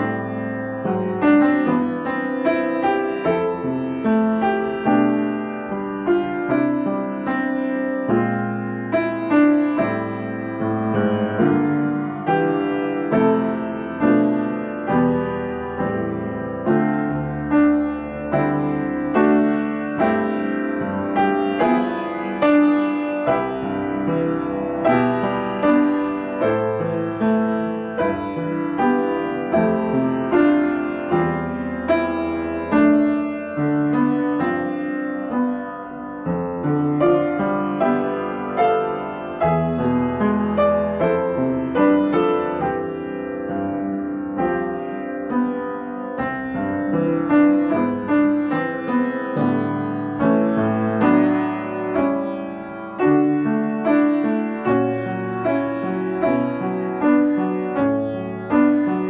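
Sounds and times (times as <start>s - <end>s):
slow solo piano: 0.0s - 59.0s.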